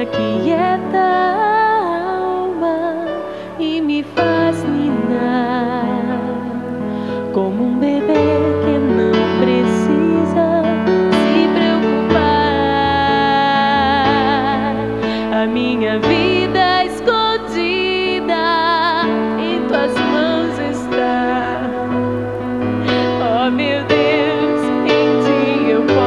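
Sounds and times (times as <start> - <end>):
worship ballad: 0.0 - 26.0.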